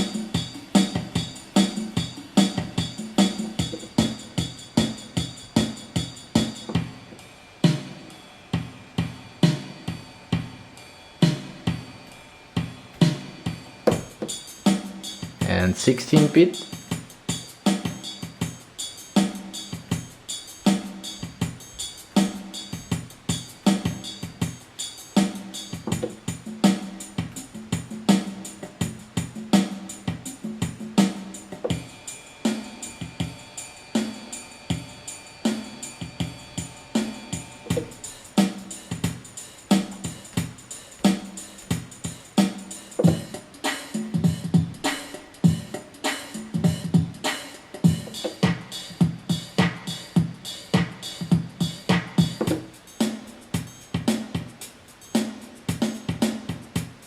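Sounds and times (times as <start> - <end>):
held keyboard notes: 0.0 - 10.6, 11.2 - 57.0
electronic drum pattern: 0.0 - 57.0.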